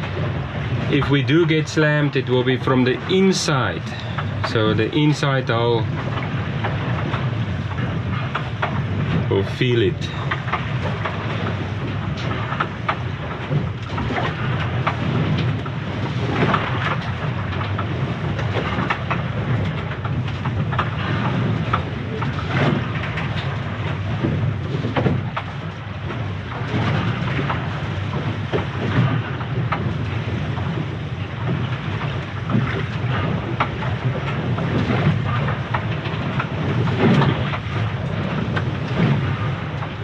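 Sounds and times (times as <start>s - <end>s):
water rushing past hull: 0.0s - 40.0s
wave knocking against hull: 0.0s - 40.0s.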